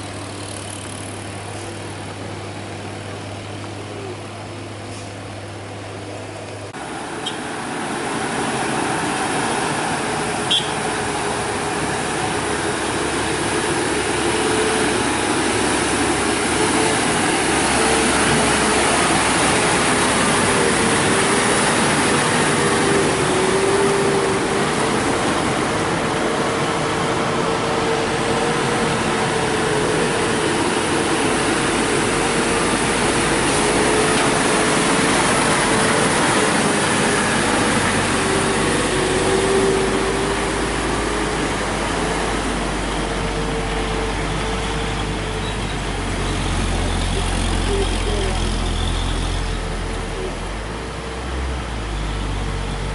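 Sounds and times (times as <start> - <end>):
truck engine under load: 0.0 - 52.9.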